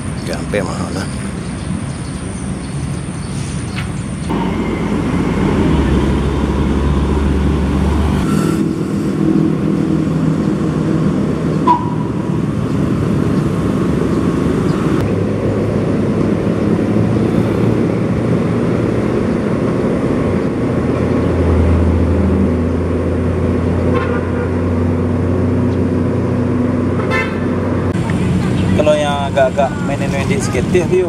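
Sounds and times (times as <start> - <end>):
vehicle engines running: 0.0 - 31.0.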